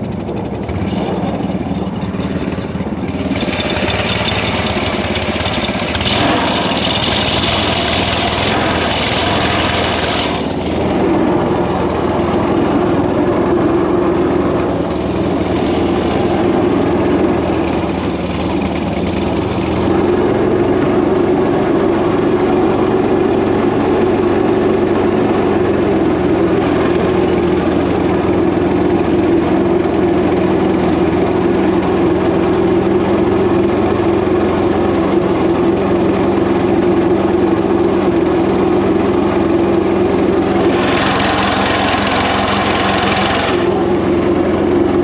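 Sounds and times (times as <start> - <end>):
small boat engine running steadily: 0.0 - 45.0.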